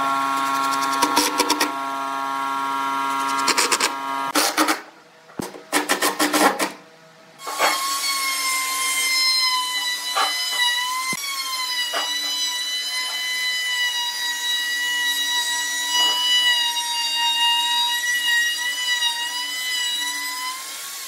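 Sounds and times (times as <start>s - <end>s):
electric router whine: 0.0s - 4.4s, 7.4s - 21.0s.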